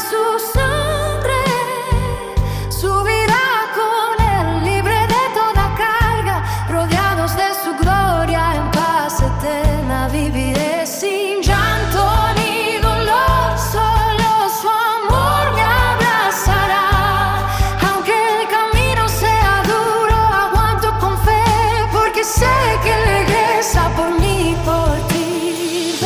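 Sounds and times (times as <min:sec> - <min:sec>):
person singing with vibrato: 0:00.0 - 0:26.0
worship pop band backing: 0:00.0 - 0:26.0.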